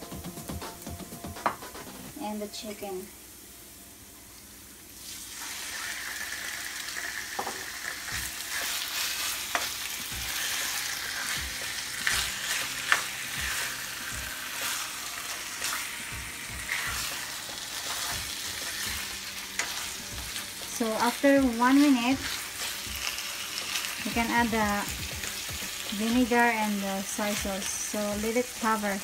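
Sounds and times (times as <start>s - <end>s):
chicken sizzling in hot oil: 4.4s - 29.0s.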